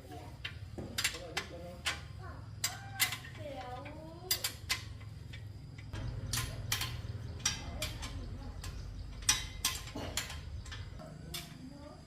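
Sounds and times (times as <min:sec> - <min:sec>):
sharp metallic clicks: 0:00.4 - 0:11.7.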